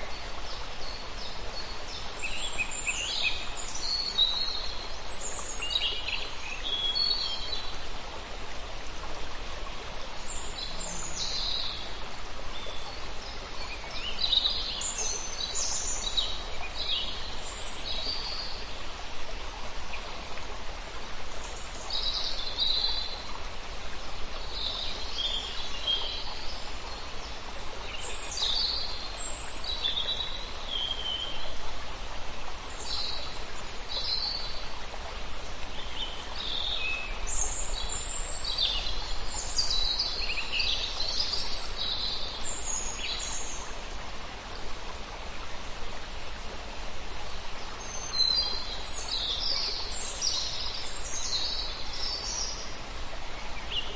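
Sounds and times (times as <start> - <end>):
steady background hiss: 0.0 - 53.9.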